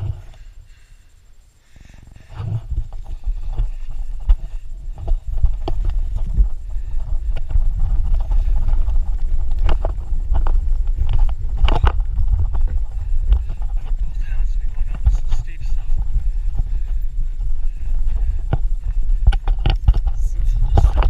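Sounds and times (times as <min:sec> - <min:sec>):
wind buffeting microphone: 0:00.0 - 0:00.5, 0:02.0 - 0:21.0
mountain bike rattling: 0:01.8 - 0:21.0.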